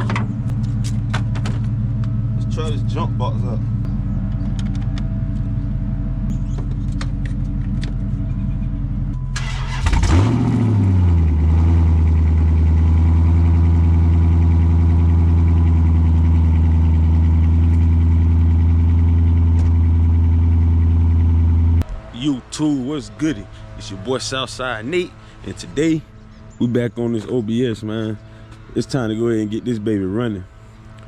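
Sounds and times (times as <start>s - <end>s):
car engine starting and idling: 0.0s - 31.0s
steady low hum: 0.0s - 31.0s.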